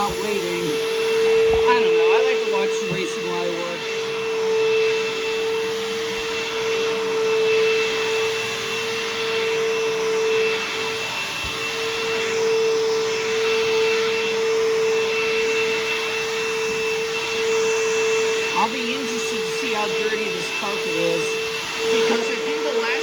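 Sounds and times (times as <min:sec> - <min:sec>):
vacuum cleaner running over carpet: 0:00.0 - 0:23.0.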